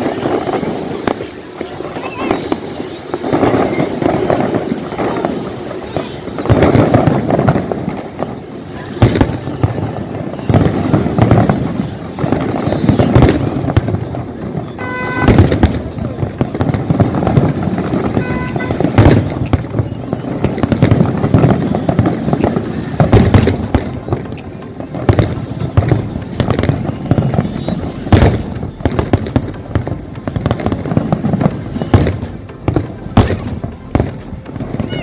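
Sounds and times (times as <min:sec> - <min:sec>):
fireworks bangs and crackling: 0:00.0 - 0:35.0
heavy firework booms: 0:00.0 - 0:35.0.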